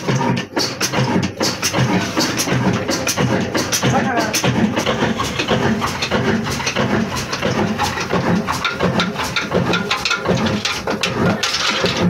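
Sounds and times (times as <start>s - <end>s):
belt-driven machinery scraping: 0.0s - 12.0s
diesel engine chugging: 0.0s - 12.0s.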